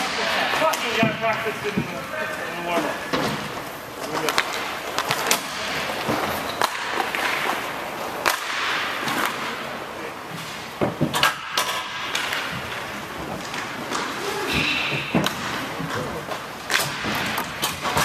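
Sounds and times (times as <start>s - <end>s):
hockey sticks clacking: 0.0s - 18.0s
skates rolling hiss: 0.0s - 18.0s.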